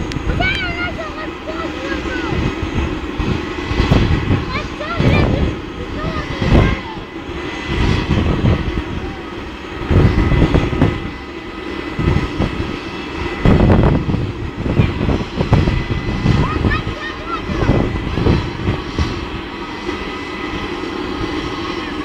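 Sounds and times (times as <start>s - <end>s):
jet engine whine: 0.0s - 22.0s
low rumble: 0.0s - 22.0s.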